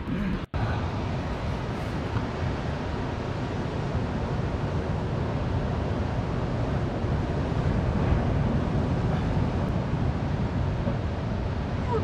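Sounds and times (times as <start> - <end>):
wind buffeting microphone: 0.0 - 12.0
ocean surf breaking: 0.3 - 12.0.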